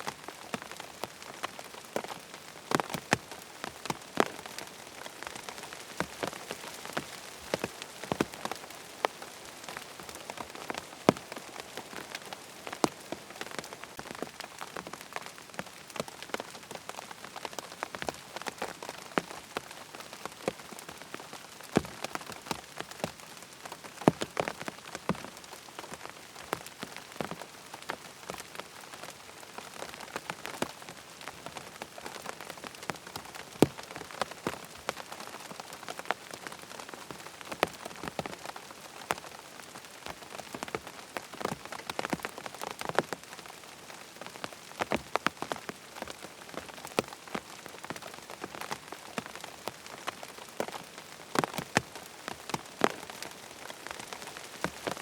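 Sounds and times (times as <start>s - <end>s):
larger raindrops tapping: 0.0s - 55.0s
rain pattering on tent fabric: 0.0s - 55.0s.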